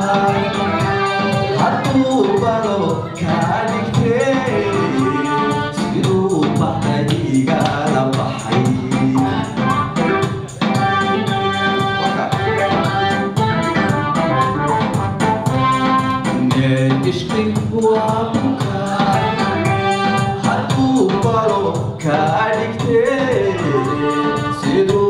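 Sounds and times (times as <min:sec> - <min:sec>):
man singing into a microphone: 0:00.0 - 0:13.2, 0:16.2 - 0:25.0
light percussion: 0:00.0 - 0:25.0
live music with steady beat: 0:00.0 - 0:25.0.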